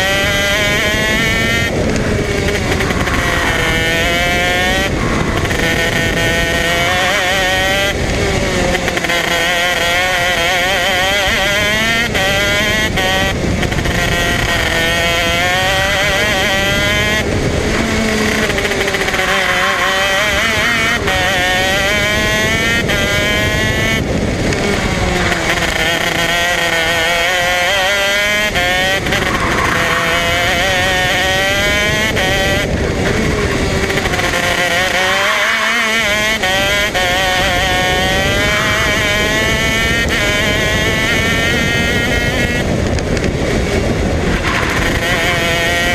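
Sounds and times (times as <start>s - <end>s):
kart engine buzzing: 0.0s - 45.9s.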